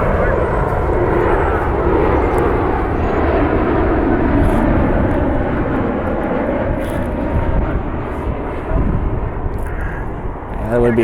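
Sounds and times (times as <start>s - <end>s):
jet engines passing close: 0.0s - 11.0s.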